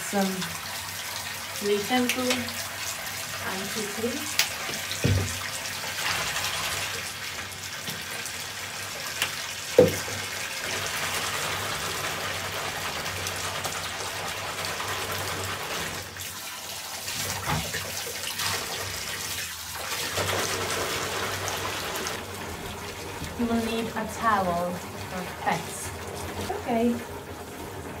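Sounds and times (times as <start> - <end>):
tap running into a bath: 0.0 - 28.0.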